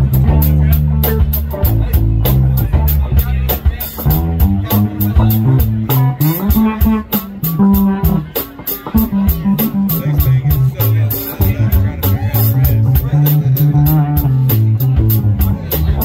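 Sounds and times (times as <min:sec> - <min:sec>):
bass line: 0:00.0 - 0:16.0
drum kit with cymbals: 0:00.0 - 0:16.0
plucked guitar notes: 0:00.0 - 0:16.0.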